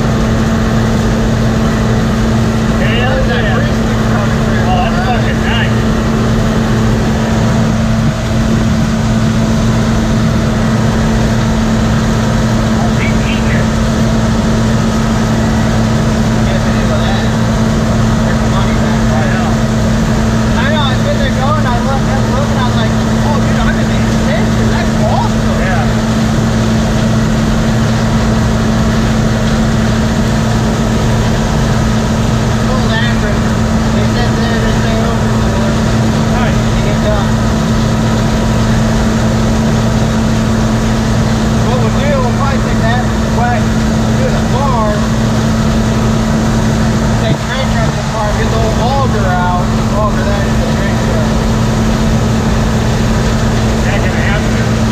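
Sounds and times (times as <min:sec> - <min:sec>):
farm machine engine humming: 0:00.0 - 0:54.9.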